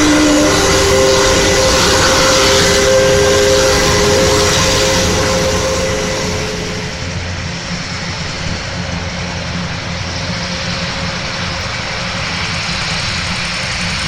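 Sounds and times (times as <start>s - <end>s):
aircraft engines running: 0.0s - 14.0s.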